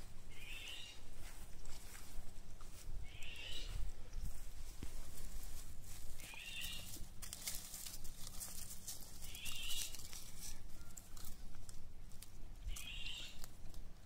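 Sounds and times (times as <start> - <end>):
rustling and crunching on mulch: 0.0 - 14.0.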